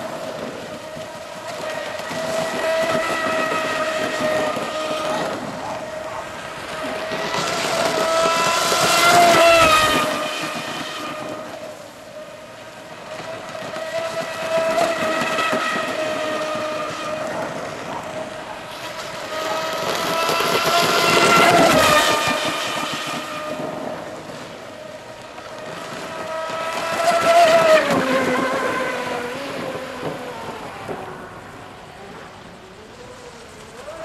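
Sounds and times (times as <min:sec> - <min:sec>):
model boat motor whining: 0:00.0 - 0:34.0.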